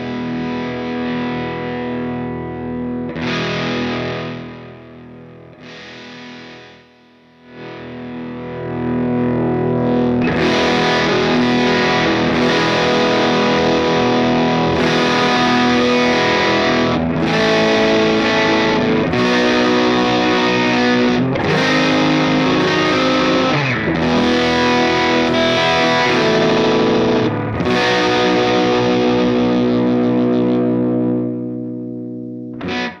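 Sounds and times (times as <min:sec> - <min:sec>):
distorted electric guitar chords: 0:00.0 - 0:33.0.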